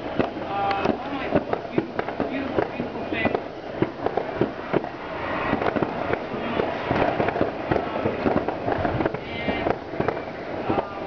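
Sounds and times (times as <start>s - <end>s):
fireworks and firecrackers banging: 0.0s - 11.0s.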